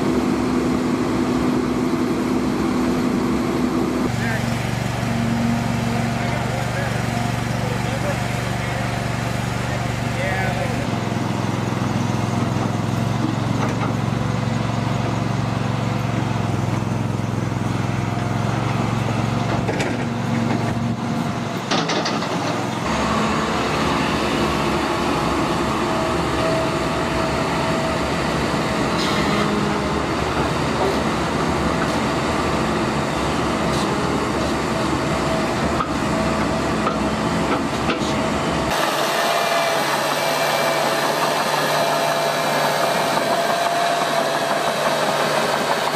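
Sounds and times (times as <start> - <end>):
dump truck engine: 0.0 - 45.9
excavator engine: 0.0 - 45.9.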